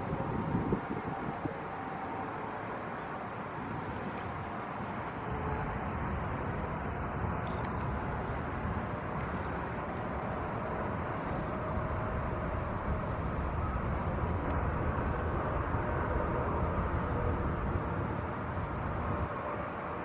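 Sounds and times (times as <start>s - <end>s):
outdoor background rumble and hiss: 0.0s - 20.0s.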